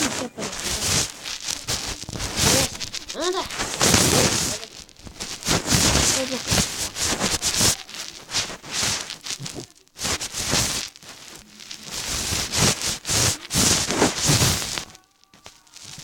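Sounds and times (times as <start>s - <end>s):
rustling and crackling: 0.0s - 16.0s.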